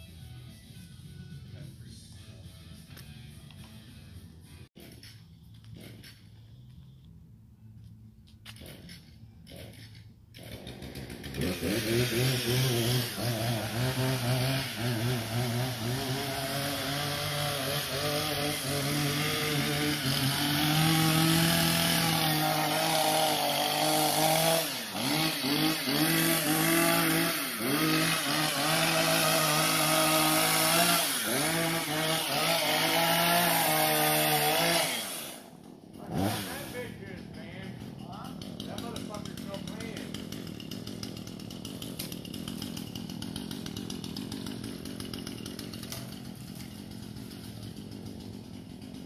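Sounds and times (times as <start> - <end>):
pole saw cutting branches: 8.5 - 49.0.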